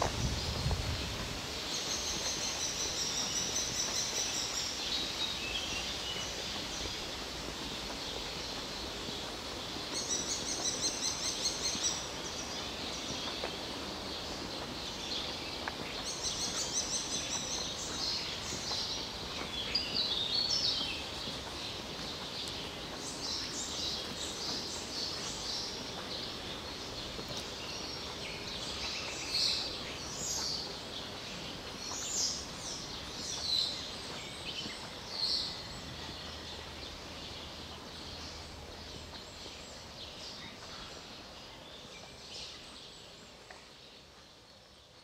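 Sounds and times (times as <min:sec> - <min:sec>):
wild birds singing and calling: 0:00.0 - 0:45.0.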